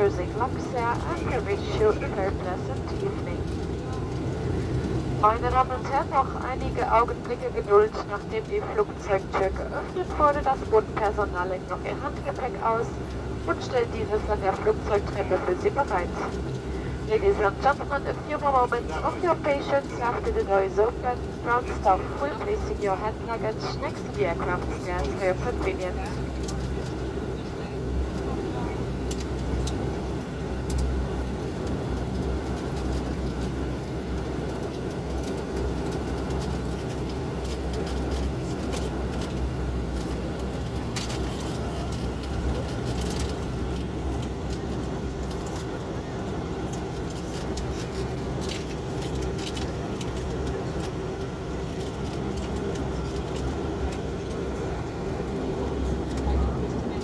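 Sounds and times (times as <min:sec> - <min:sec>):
airliner engine hum: 0:00.0 - 0:57.0.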